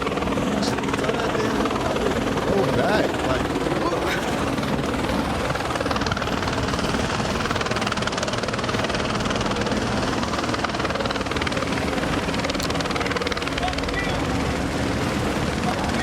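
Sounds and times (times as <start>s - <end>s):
helicopter rotor chopping: 0.0s - 16.0s.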